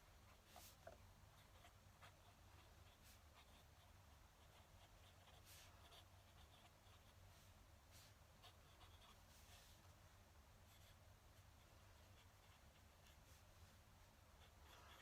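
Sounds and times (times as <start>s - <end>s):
low steady hum: 0.0s - 15.0s
pen nib scratching paper: 0.2s - 9.9s, 10.6s - 13.5s, 14.3s - 15.0s.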